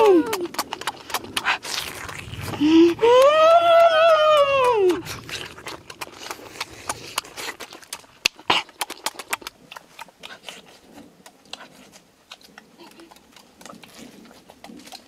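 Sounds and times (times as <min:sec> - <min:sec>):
lip-smacking: 0:00.0 - 0:15.0
wet chewing: 0:00.0 - 0:15.0.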